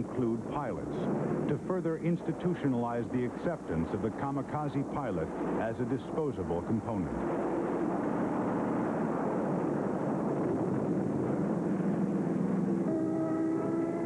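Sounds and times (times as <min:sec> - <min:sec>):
propeller aircraft engine drone: 0:00.0 - 0:14.0.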